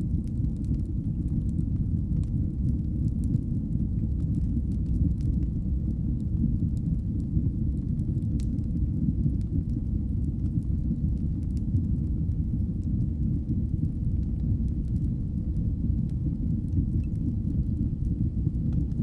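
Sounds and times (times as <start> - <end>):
fire burning with low rumble: 0.0 - 19.0
fire crackles and pops: 0.0 - 19.0.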